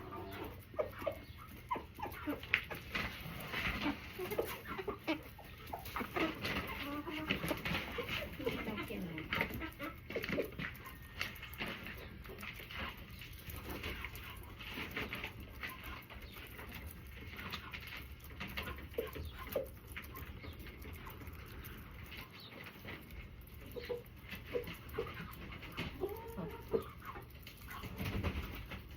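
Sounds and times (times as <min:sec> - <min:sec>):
chicken calls: 0:00.0 - 0:28.9
chickens clucking softly: 0:00.0 - 0:28.9.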